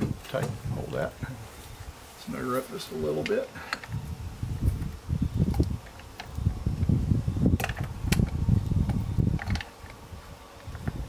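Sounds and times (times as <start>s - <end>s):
wind buffeting microphone: 0.0s - 2.0s, 2.9s - 11.0s.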